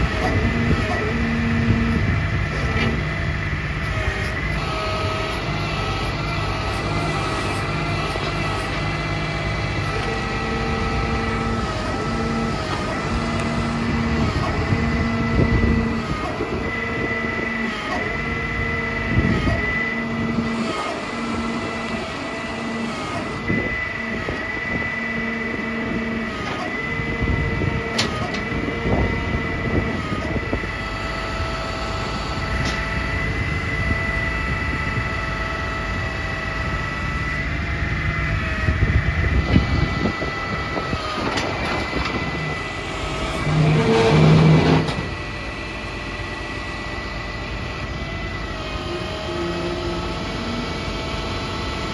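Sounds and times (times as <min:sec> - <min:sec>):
hydraulic drill drone and whine: 0:00.0 - 0:51.9.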